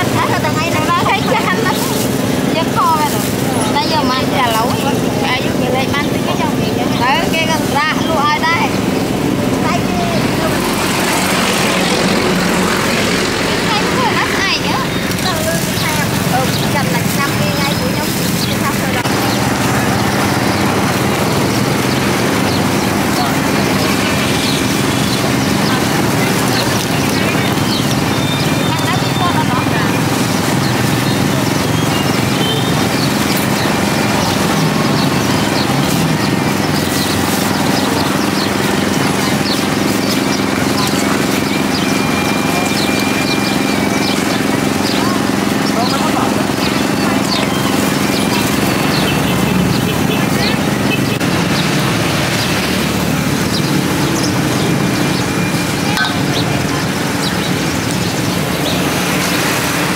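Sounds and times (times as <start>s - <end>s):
busy background noise: 0.0s - 59.9s
motor traffic din: 0.0s - 59.9s.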